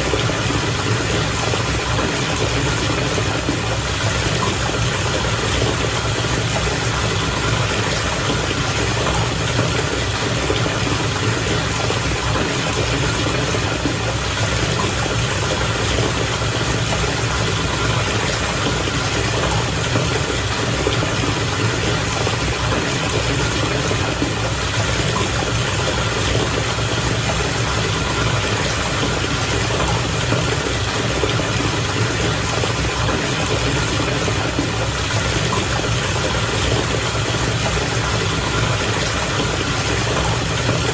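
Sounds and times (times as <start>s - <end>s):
bath water bubbling: 0.0s - 40.9s.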